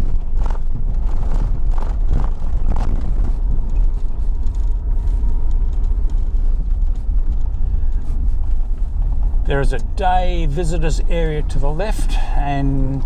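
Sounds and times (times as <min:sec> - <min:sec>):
car driving on dirt road: 0:00.0 - 0:13.0.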